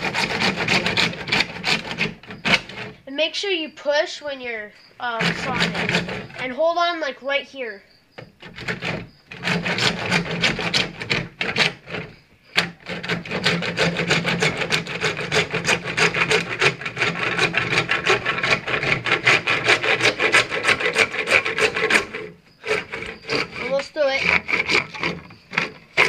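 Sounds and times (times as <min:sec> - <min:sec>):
handsaw cutting plastic pipe: 0:00.0 - 0:03.0, 0:05.0 - 0:06.5, 0:08.2 - 0:26.0.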